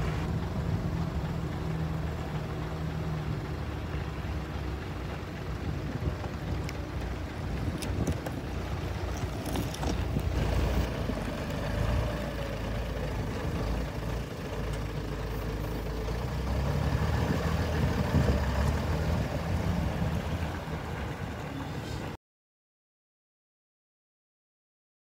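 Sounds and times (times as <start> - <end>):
diesel engine idling: 0.0 - 22.2.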